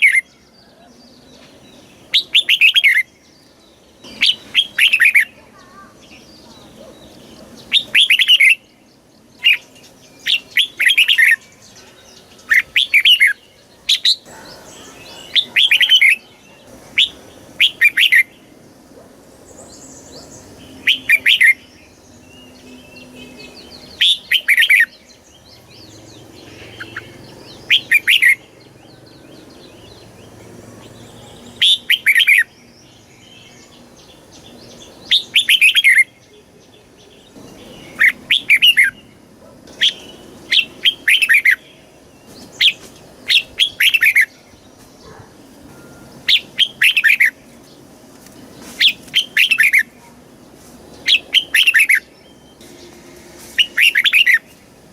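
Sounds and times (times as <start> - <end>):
bird song phrases: 0.0 - 54.9
faint bird chirping: 0.0 - 54.9.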